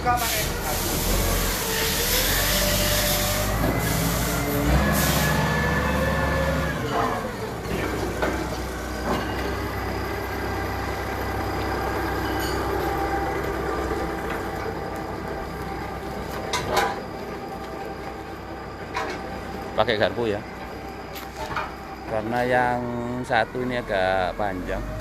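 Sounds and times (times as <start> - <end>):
forklift engine running: 0.0 - 25.0
forklift whine: 0.0 - 25.0.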